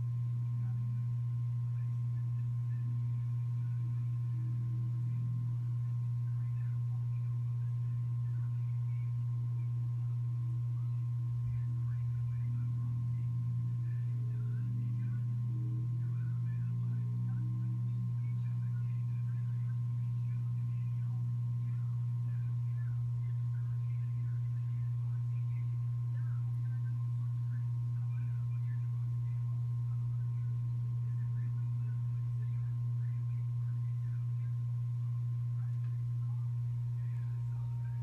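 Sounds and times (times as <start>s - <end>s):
small oil pump humming: 0.0s - 38.0s.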